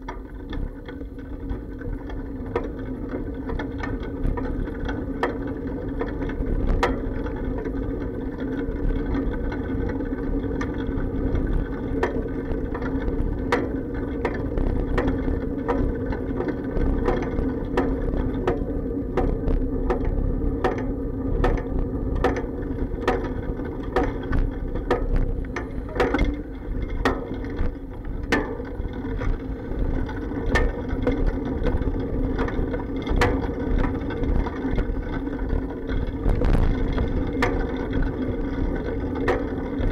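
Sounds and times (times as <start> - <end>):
bike frame clacks and knocks: 0.0 - 39.9
muffled bicycle rumble: 0.0 - 39.9.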